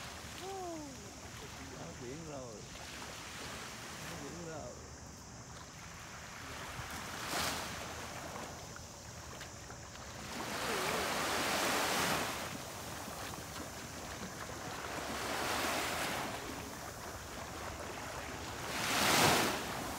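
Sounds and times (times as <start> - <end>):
small waves washing on sand: 0.0 - 19.9.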